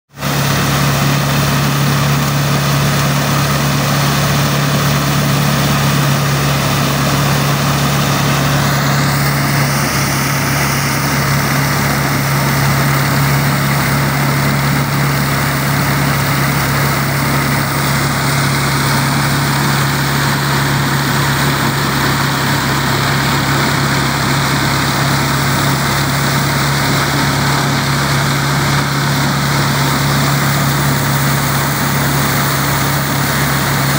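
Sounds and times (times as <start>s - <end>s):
thresher churning: 0.2s - 33.9s
tractor engine running: 0.2s - 33.9s.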